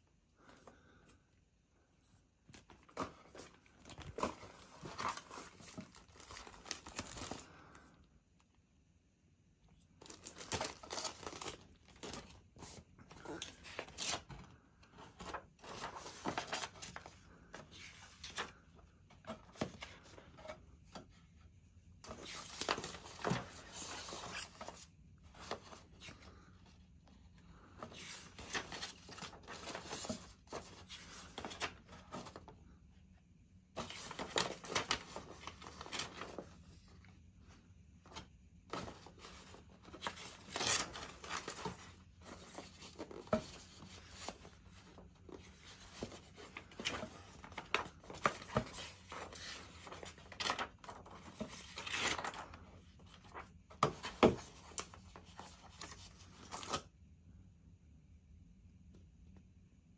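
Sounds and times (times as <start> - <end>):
paper pages rustling: 2.4 - 7.8, 10.0 - 21.2, 22.0 - 26.5, 27.4 - 32.5, 33.8 - 56.8.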